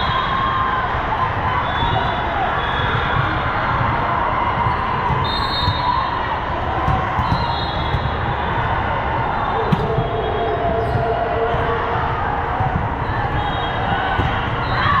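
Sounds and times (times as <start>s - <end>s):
crowd voices: 0.0s - 15.0s
volleyball hits: 2.8s - 15.0s.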